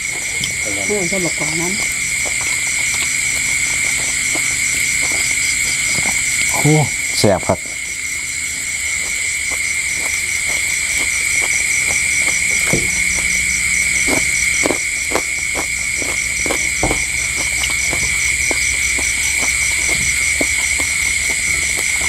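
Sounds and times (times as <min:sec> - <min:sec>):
crickets trilling: 0:00.0 - 0:22.0
pulsing high insect trill: 0:00.0 - 0:22.0.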